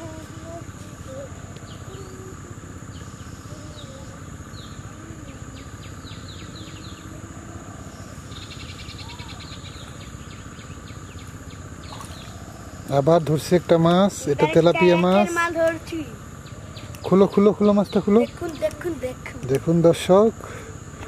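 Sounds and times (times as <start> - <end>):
rapid bird trill: 0.0 - 19.2
birds chirping: 0.0 - 21.0
high insect drone: 0.0 - 21.0.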